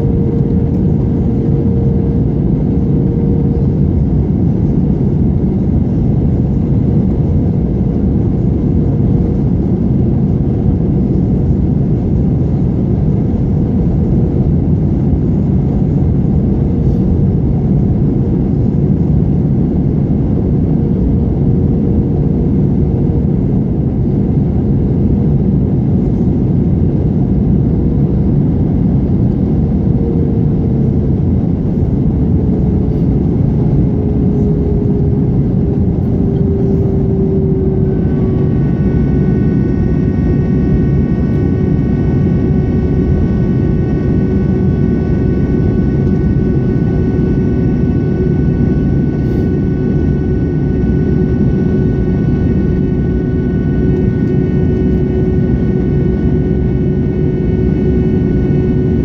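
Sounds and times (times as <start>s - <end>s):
airliner cabin rumble: 0.0s - 59.0s
faint engine hum: 0.0s - 59.0s.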